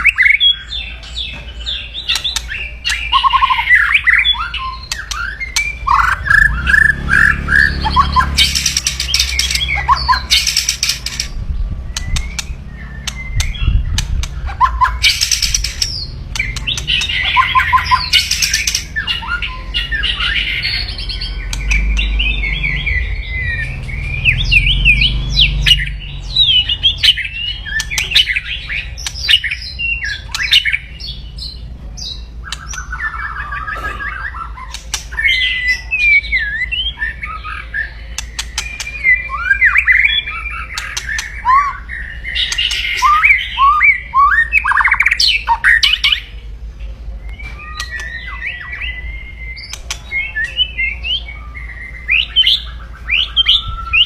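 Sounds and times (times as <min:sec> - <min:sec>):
bird chattering and whistling: 0:00.0 - 0:46.4, 0:47.2 - 0:54.0.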